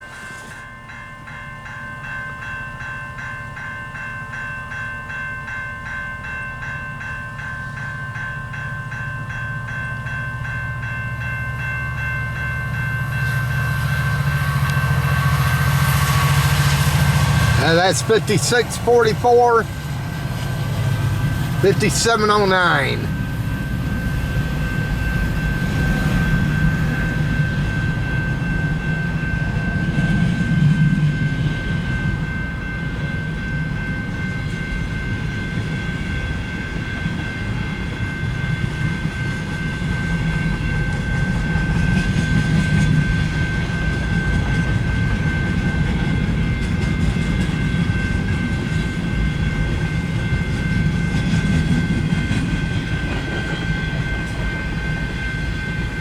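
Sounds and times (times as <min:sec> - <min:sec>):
freight train cars rumbling: 0:00.0 - 0:56.0.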